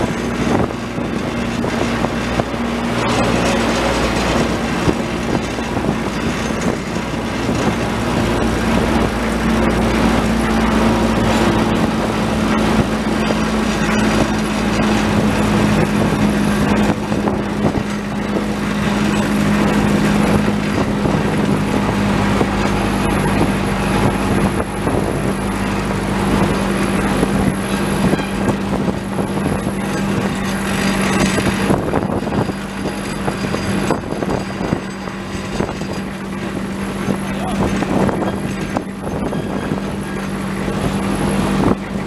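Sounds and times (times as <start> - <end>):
locomotive engine running: 0.0 - 42.0
wheels rattling on rail: 0.0 - 42.0.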